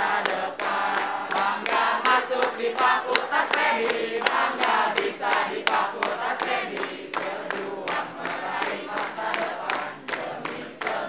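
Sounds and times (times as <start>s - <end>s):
rhythmic hand claps: 0.0s - 11.0s
young voices chanting a cheer: 0.0s - 11.0s.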